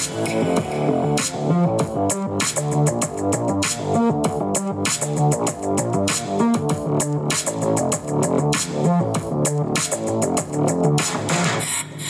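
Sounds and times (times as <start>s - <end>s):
electronic music through laptop speakers: 0.0s - 12.0s.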